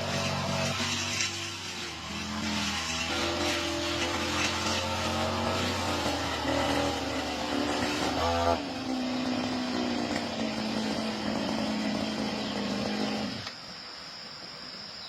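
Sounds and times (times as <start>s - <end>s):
lawn mower engine running: 0.0s - 13.5s.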